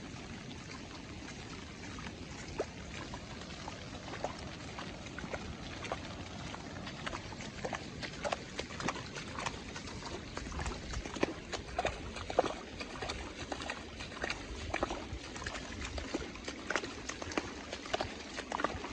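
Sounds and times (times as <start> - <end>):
raindrops splattering: 0.0 - 18.9.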